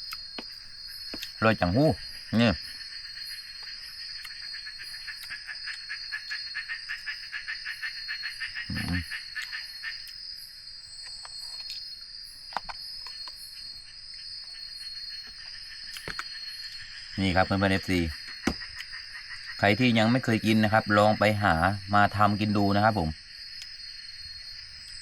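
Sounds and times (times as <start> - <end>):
fast pulsing insect trill: 0.0 - 25.0
high insect chirps: 0.0 - 25.0
high-pitched insect drone: 0.0 - 25.0.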